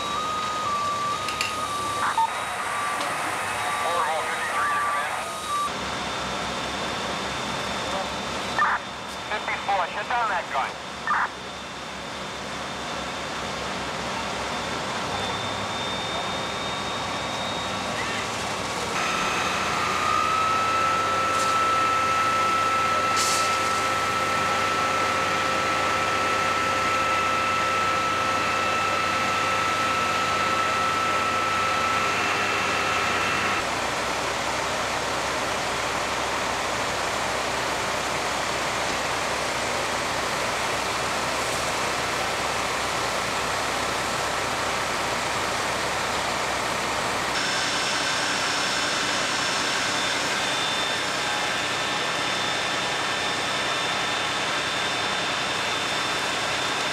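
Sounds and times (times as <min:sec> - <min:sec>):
diesel engines and pumps idling: 0:00.0 - 0:56.9
steady whine: 0:00.0 - 0:56.9.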